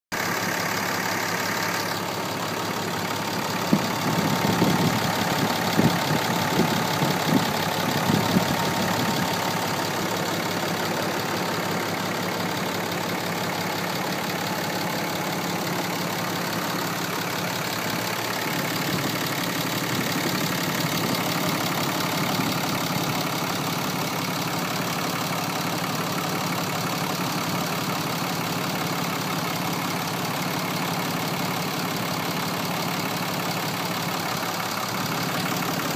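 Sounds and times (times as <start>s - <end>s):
pickup engine idling: 0.1s - 35.9s.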